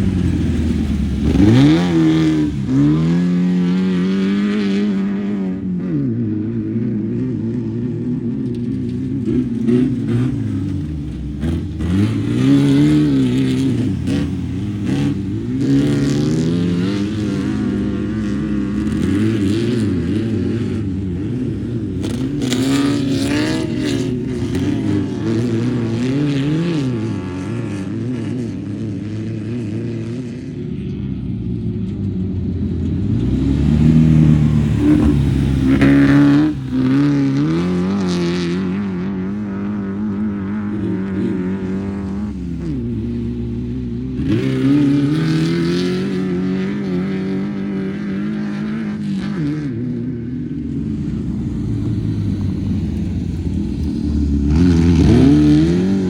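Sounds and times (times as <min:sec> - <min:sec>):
race car engines revving and passing: 0:00.0 - 0:56.0.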